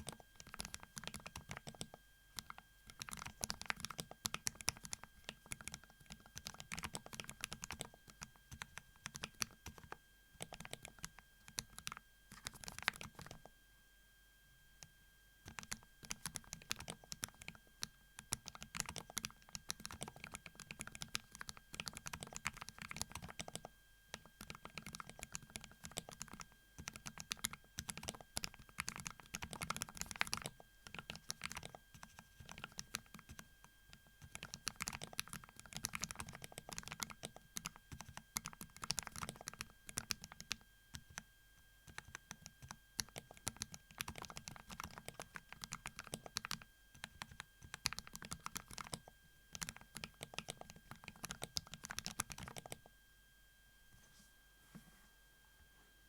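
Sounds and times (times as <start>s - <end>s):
mechanical keyboard typing: 0.0s - 13.5s, 15.5s - 41.2s, 41.9s - 52.8s.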